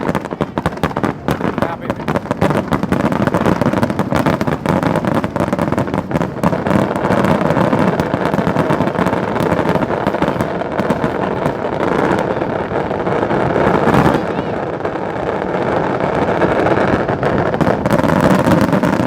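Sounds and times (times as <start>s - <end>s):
fireworks cracks and pops: 0.0s - 19.0s
fireworks rumble: 0.0s - 19.0s.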